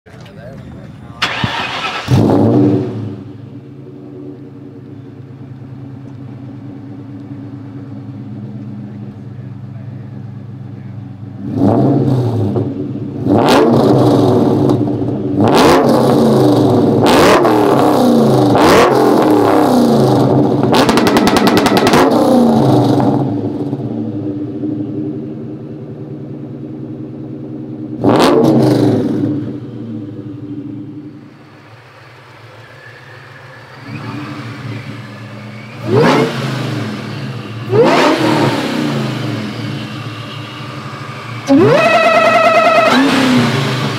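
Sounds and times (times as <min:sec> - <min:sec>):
car engine revving and idling: 0:00.1 - 0:43.9.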